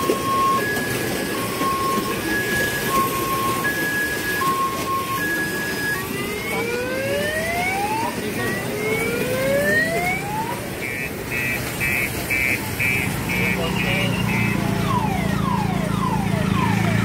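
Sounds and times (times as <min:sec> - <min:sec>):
crowd hubbub: 0:00.0 - 0:17.0
electronic siren effects: 0:00.0 - 0:17.0.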